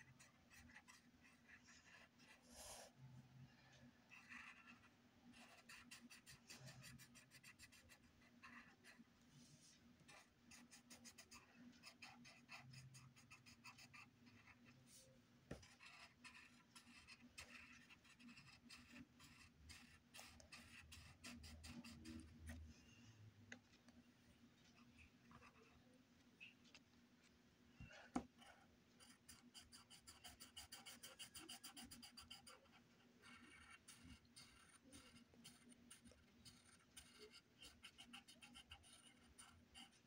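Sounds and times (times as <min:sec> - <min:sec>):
pencil scratching on paper: 0:00.0 - 0:22.8, 0:24.6 - 0:25.8, 0:27.8 - 0:40.0.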